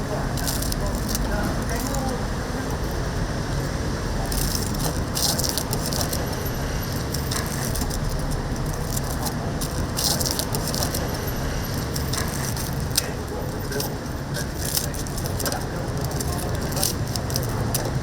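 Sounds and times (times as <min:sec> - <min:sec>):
metallic rattling and clatter: 0:00.0 - 0:18.0.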